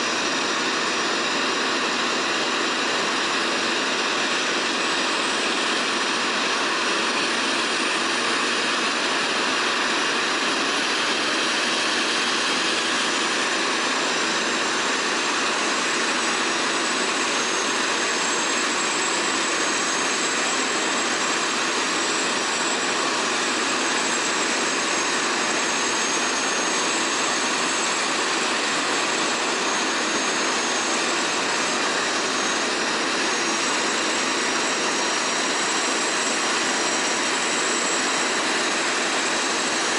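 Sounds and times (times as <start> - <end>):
helicopter turbine engine running: 0.0 - 39.9.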